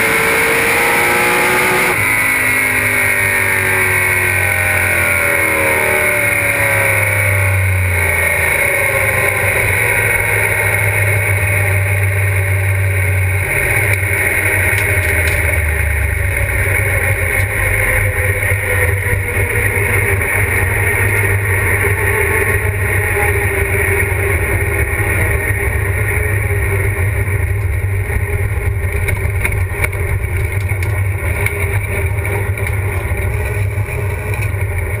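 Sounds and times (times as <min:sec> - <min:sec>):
car engine winding down: 0:00.0 - 0:35.0.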